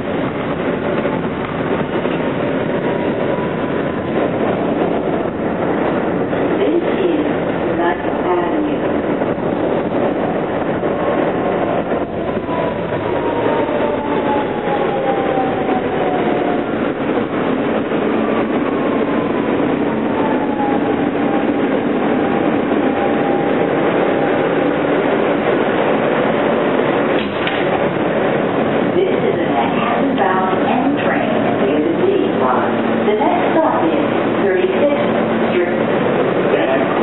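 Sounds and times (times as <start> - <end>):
wheels rumbling on rail: 0.0 - 37.0.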